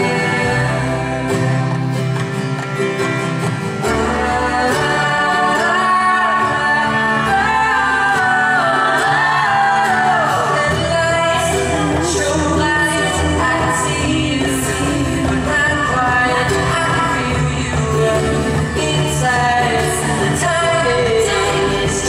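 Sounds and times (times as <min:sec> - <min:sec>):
bass guitar: 0:00.0 - 0:22.0
live band playing: 0:00.0 - 0:22.0.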